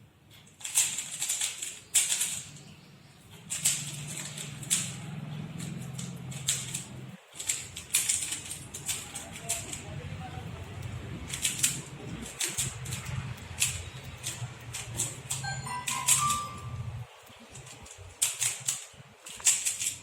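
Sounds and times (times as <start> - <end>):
puzzle cube plastic clicks: 0.4 - 2.7, 3.4 - 20.0.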